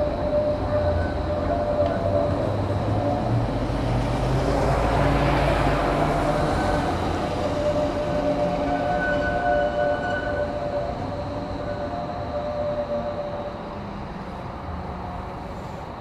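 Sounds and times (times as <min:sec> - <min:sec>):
tram rolling past: 0:00.0 - 0:16.0.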